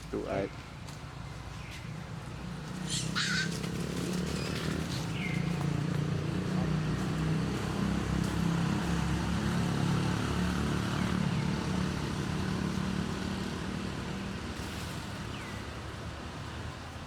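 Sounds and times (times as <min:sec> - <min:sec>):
vehicle engine low hum: 0:00.0 - 0:17.0.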